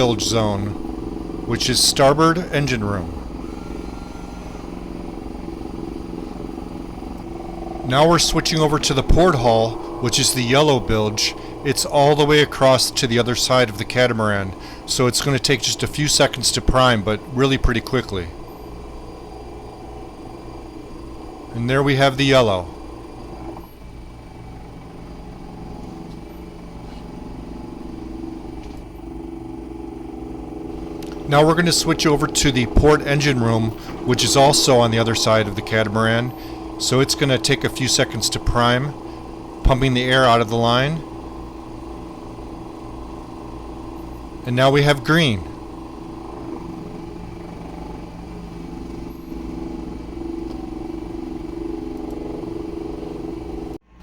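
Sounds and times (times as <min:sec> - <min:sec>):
electric pump humming: 0:00.0 - 0:54.0.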